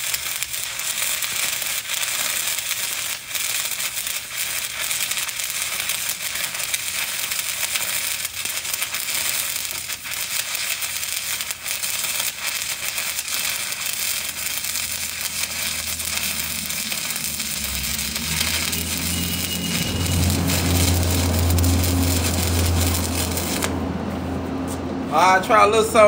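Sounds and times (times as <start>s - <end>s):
welding arc crackling and sizzling: 0.0s - 24.0s.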